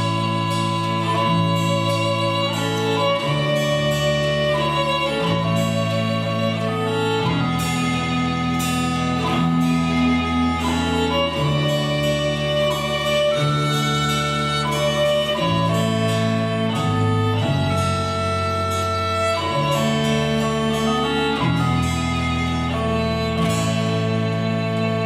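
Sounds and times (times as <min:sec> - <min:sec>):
folk band playing a tune: 0:00.0 - 0:25.0.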